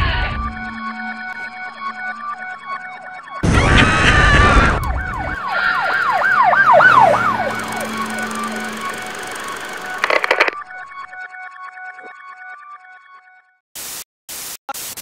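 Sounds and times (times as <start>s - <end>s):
siren wailing: 0.0s - 13.4s.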